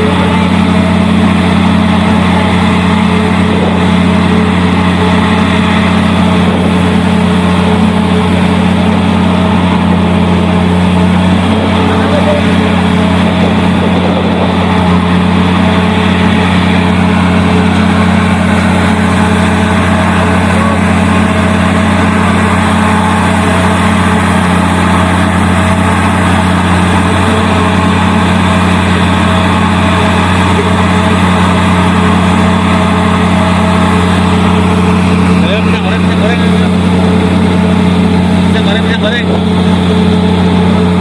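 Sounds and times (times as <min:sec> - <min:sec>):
diesel engine humming: 0:00.0 - 0:41.0.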